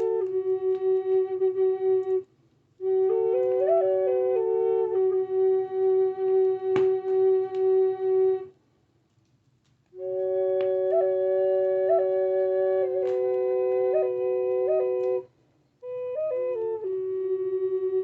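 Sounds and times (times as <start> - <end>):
flute playing: 0.0 - 8.5, 9.9 - 18.0.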